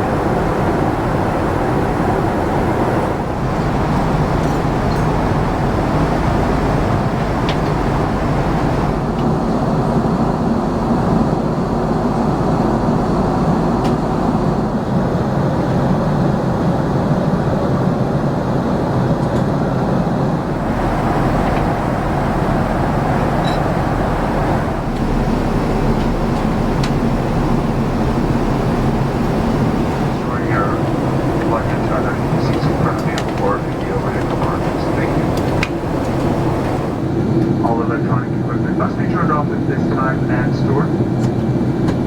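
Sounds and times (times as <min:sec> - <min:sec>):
airliner cabin engine rush: 0:00.0 - 0:42.0.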